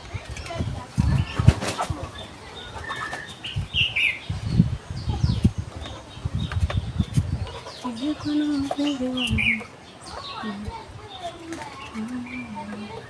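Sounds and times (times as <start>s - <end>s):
rustling: 0.0s - 13.0s
small birds chirping: 0.0s - 13.0s.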